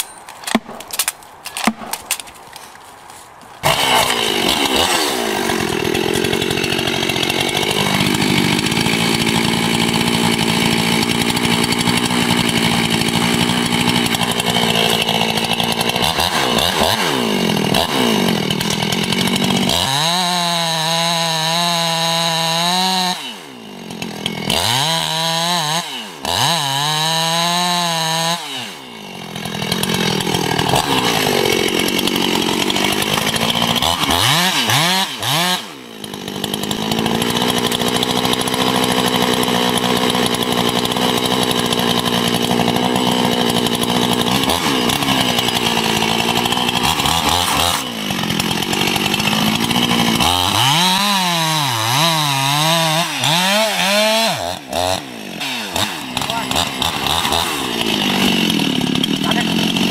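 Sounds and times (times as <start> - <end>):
chainsaw cutting tree trunk: 0.0 - 2.8, 3.6 - 59.9.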